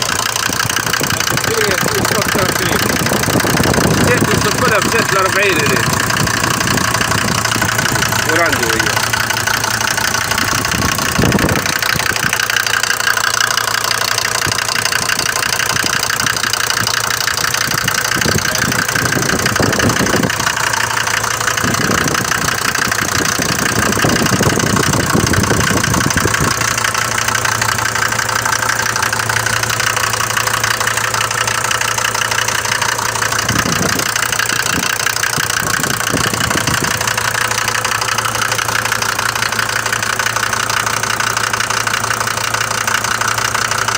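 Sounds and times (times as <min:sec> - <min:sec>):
diesel engine knocking clatter: 0:00.0 - 0:43.9.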